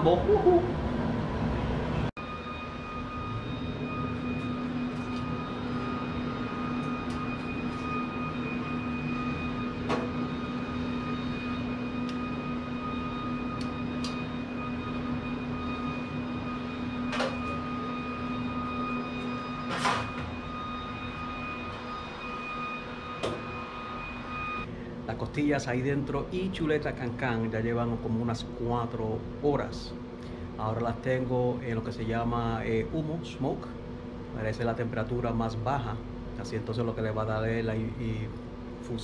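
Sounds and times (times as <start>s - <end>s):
smoker fan humming: 0.0s - 39.0s.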